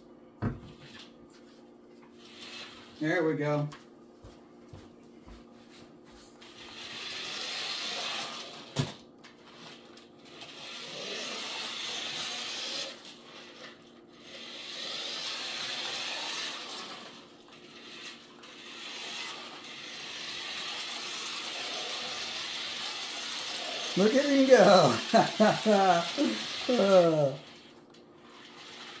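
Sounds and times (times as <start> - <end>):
toy truck motor whirring: 2.2 - 3.0, 6.4 - 29.0.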